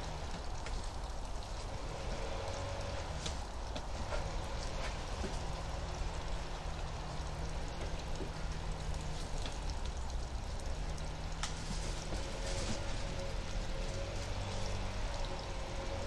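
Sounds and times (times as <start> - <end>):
distant lawn equipment engine: 0.0 - 16.0
faint ticks: 2.5 - 16.0.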